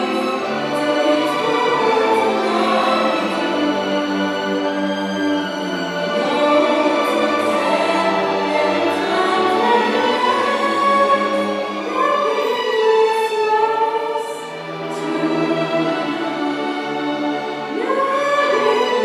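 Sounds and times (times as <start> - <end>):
string orchestra chords: 0.0 - 19.0.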